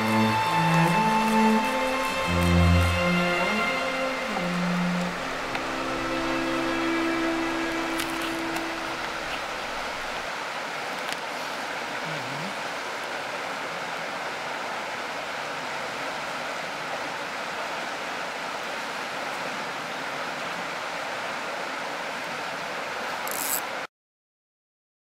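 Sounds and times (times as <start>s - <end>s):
river rushing over riffles: 0.0s - 23.8s.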